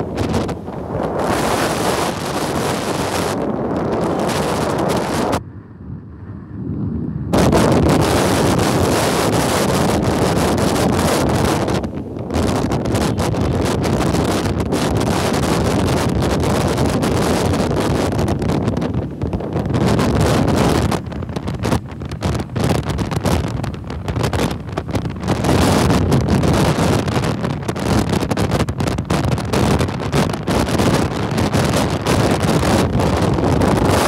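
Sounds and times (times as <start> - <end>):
motorcycle road noise: 0.0 - 34.0
wind buffeting microphone: 0.0 - 34.0.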